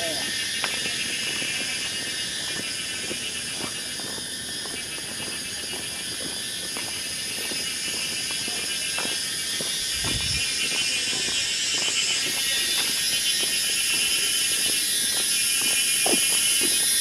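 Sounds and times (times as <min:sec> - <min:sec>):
insects buzzing and trilling: 0:00.0 - 0:17.0.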